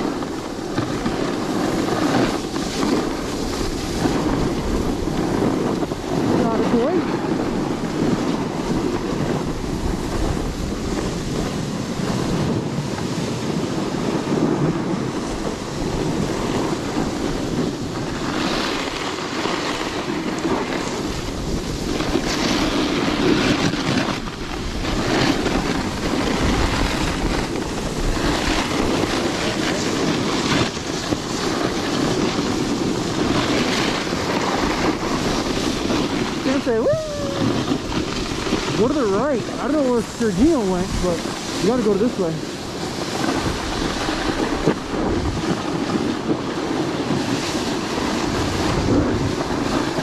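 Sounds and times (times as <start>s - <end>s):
snowboard and skis scraping snow: 0.0s - 50.0s
wind rushing over microphone: 0.0s - 50.0s.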